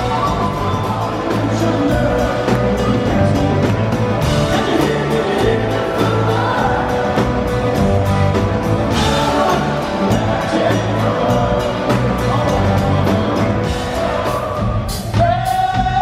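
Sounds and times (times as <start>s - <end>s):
live rock band: 0.0s - 16.0s
man singing: 0.0s - 16.0s.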